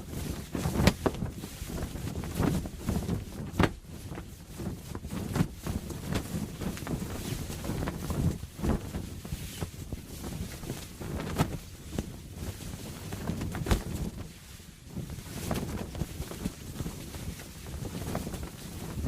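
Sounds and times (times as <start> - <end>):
canvas sail flapping and snapping: 0.0 - 19.0.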